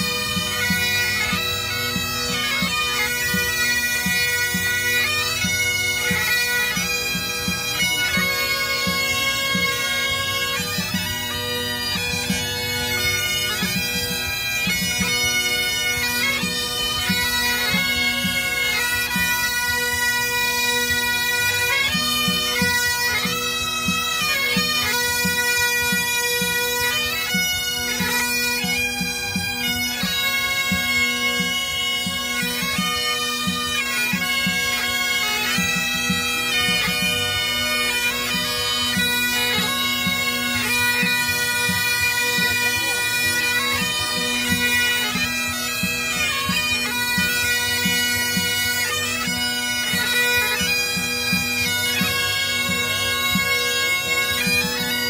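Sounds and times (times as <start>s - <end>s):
bagpipes playing melody: 0.0s - 55.0s.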